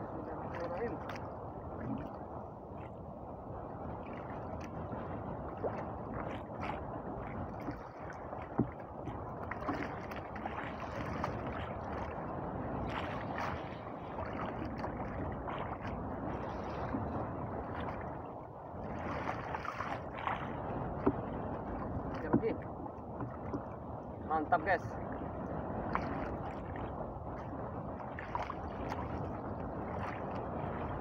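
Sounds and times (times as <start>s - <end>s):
water lapping against boat hull: 0.0s - 31.0s
wind: 0.0s - 31.0s.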